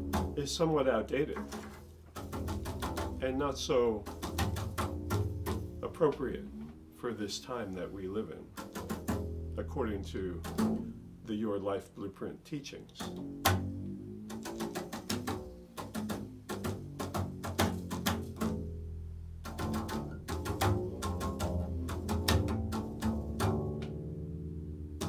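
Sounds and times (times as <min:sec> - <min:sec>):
double bass plucked: 0:00.0 - 0:25.0.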